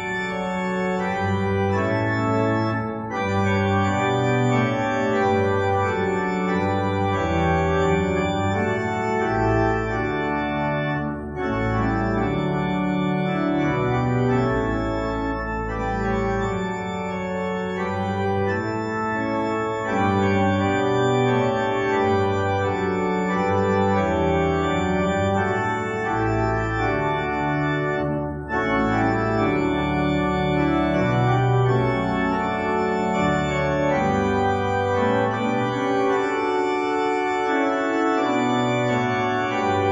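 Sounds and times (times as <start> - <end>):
organ playing chords: 0.0 - 39.9.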